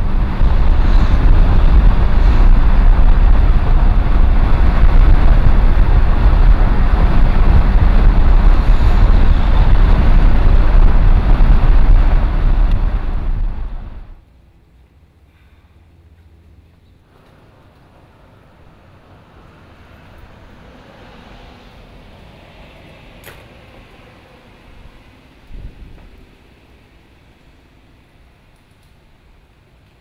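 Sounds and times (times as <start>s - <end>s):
road and wind noise inside car: 0.0s - 14.3s, 16.0s - 28.4s.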